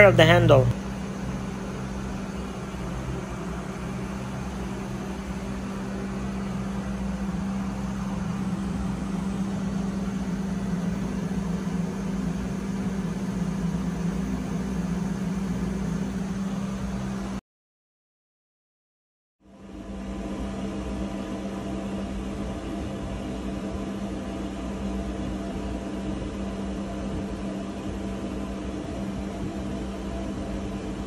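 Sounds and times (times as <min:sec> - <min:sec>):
engine room machinery hum: 0:00.0 - 0:17.4, 0:19.5 - 0:31.0.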